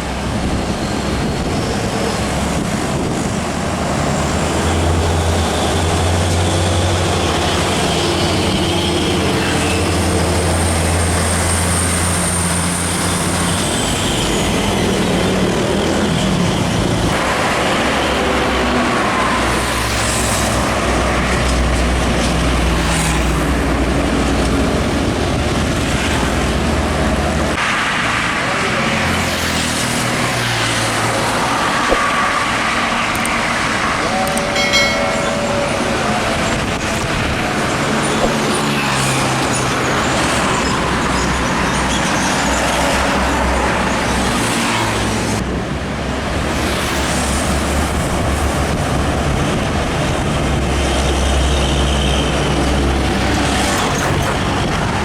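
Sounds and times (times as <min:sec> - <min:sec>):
diesel truck engines: 0:00.0 - 0:55.0
road and tyre noise: 0:00.0 - 0:55.0.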